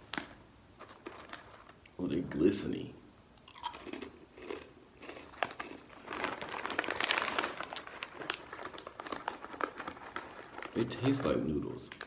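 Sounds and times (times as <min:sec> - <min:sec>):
plastic bag crinkling: 0:00.1 - 0:01.8, 0:03.6 - 0:12.0
chip crunching: 0:00.1 - 0:01.9, 0:03.4 - 0:12.0.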